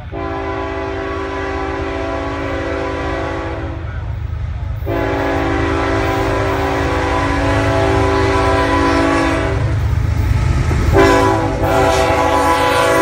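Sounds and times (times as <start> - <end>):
locomotive air horn: 0.0 - 3.9, 4.9 - 9.8, 10.9 - 13.0.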